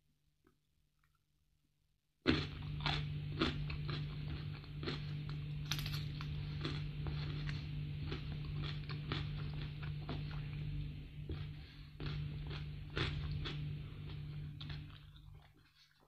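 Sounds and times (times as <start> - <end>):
crunching and chewing crisp food: 2.2 - 16.0
steady low hum: 2.3 - 16.0.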